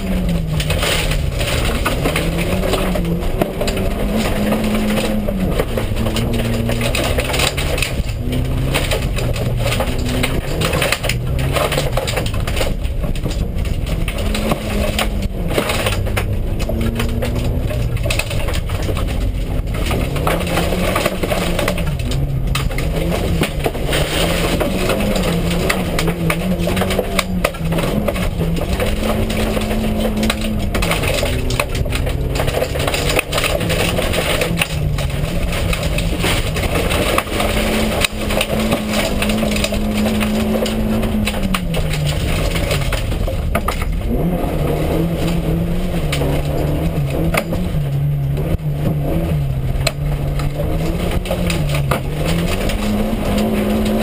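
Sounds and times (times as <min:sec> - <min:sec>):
gravel rattling against car: 0:00.0 - 0:54.0
rally car engine revving: 0:00.0 - 0:54.0.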